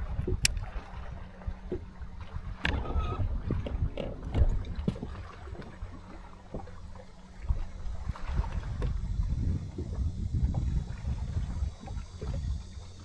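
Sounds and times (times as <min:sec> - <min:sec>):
gusty wind rumble: 0:00.0 - 0:05.6, 0:07.5 - 0:13.0
water lapping against hull: 0:00.0 - 0:13.0.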